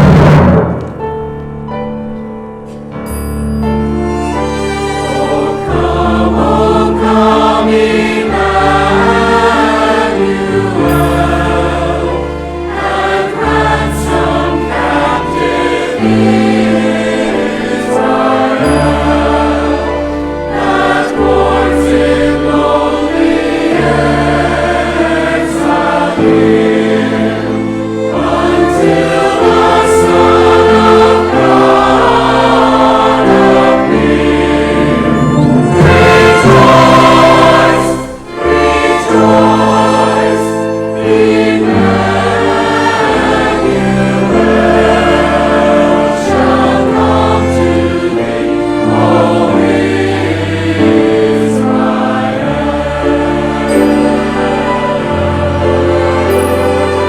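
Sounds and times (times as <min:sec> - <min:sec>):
orchestral accompaniment: 0:00.0 - 0:57.0
choir singing carols: 0:03.8 - 0:57.0.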